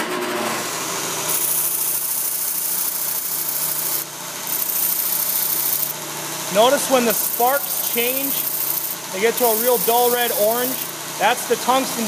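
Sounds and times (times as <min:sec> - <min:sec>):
belt sander motor hum: 0:00.3 - 0:12.0
harsh grinding hiss: 0:01.3 - 0:11.8.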